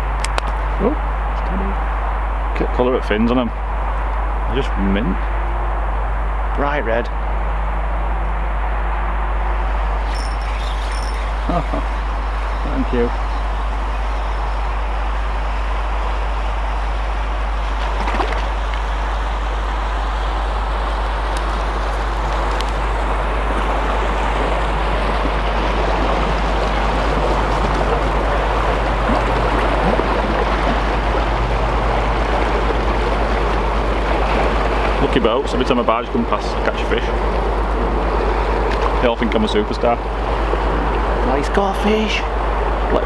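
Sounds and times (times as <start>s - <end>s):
low engine hum: 0.0s - 43.0s
water rushing: 0.0s - 43.0s.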